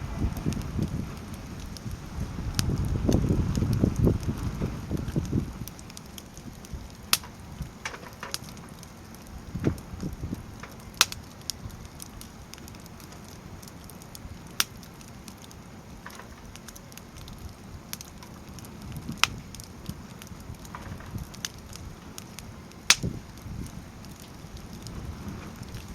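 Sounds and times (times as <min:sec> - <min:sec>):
rustle of flames: 0:00.0 - 0:25.9
wood crackling and popping: 0:00.0 - 0:25.9.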